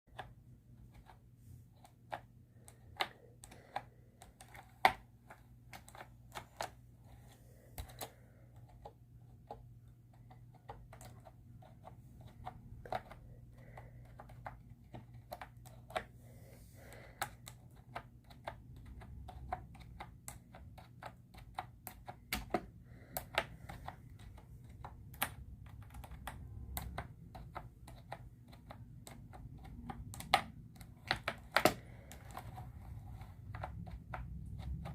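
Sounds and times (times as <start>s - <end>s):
mechanical keyboard typing: 1.8s - 16.1s, 16.9s - 34.9s.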